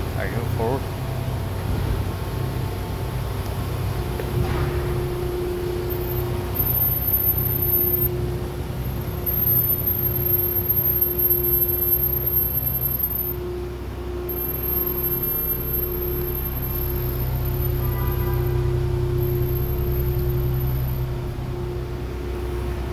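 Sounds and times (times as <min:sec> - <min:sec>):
brakes moaning: 0:00.0 - 0:22.9
low vehicle rumble: 0:00.0 - 0:22.9.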